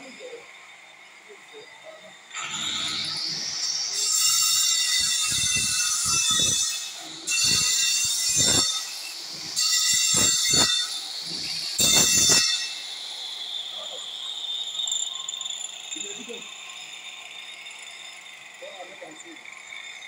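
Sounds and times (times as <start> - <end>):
angle grinder cutting marble: 0.0 - 20.0.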